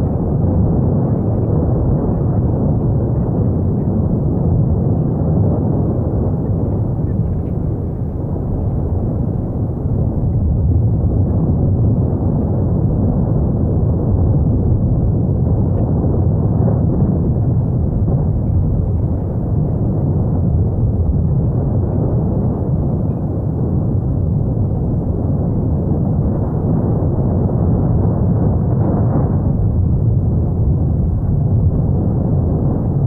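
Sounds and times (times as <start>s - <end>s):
deep volcanic rumbling: 0.0s - 33.0s.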